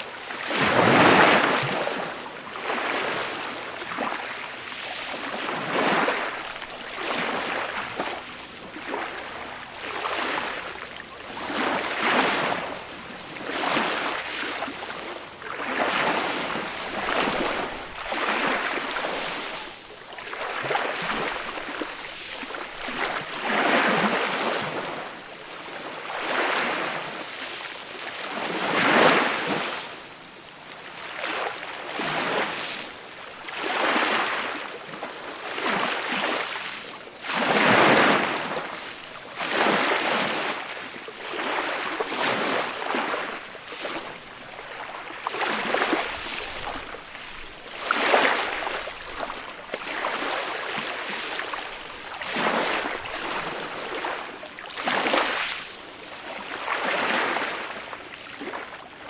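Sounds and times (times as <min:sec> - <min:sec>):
gentle waves washing on beach: 0:00.0 - 0:59.0.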